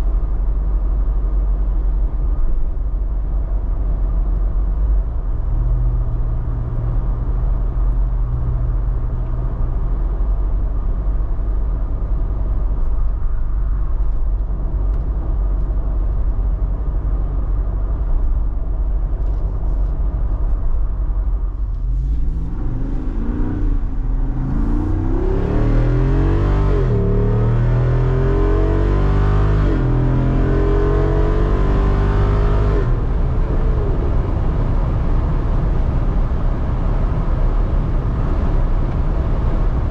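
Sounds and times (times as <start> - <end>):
car engine accelerating: 3.7 - 39.9.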